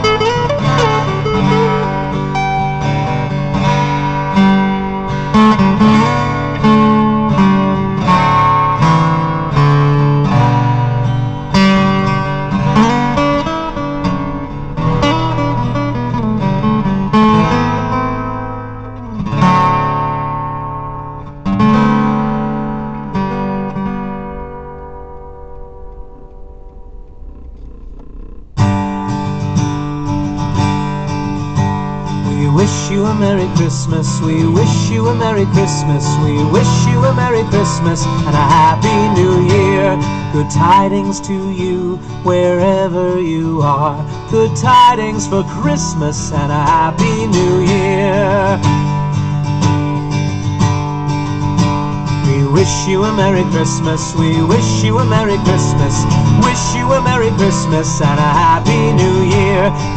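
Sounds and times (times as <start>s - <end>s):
plucked guitar music: 0.0s - 59.9s.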